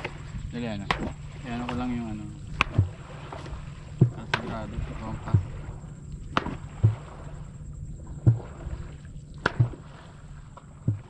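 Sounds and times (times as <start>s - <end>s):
dull knocks with splashing: 0.0s - 11.0s.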